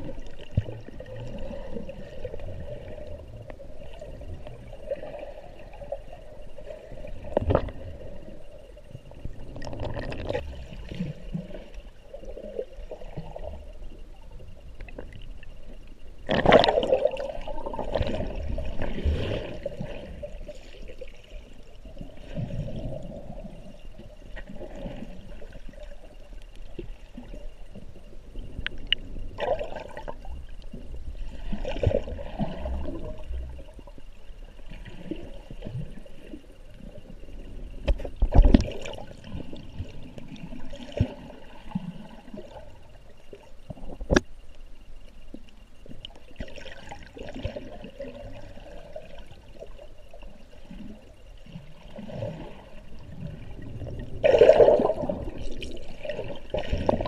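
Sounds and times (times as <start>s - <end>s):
underwater water rushing: 0.0s - 44.4s, 45.8s - 57.0s.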